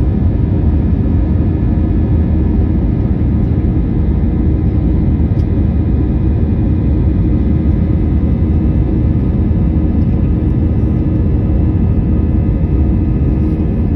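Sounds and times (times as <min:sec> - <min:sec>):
airliner engines droning: 0:00.0 - 0:13.9.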